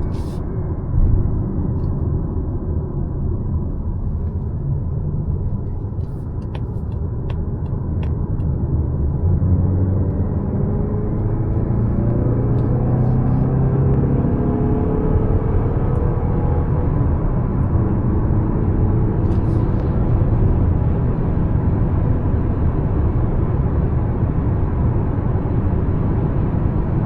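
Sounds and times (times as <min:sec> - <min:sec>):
car engine: 0:00.0 - 0:27.0
road rumble: 0:00.0 - 0:27.0.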